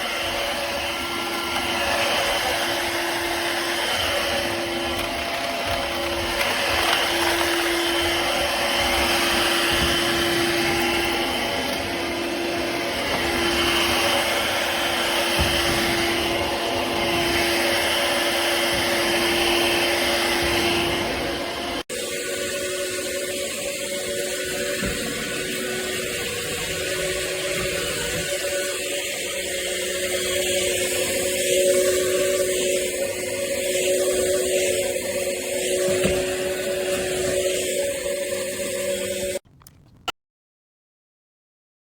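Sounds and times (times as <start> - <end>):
stick vacuum motor whining: 0.0 - 40.1.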